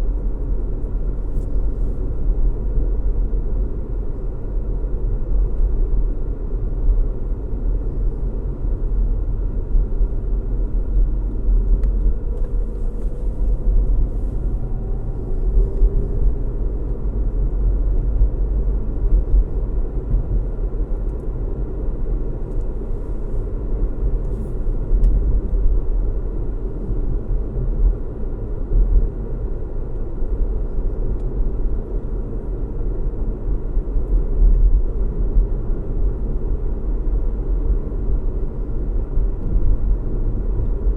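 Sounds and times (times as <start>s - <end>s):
car engine hum and road noise: 0.0s - 40.9s.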